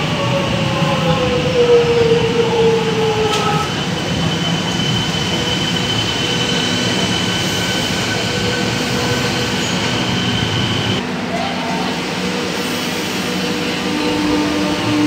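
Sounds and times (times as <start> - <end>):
train rumble: 0.0 - 15.0
train brakes squealing: 2.8 - 15.0.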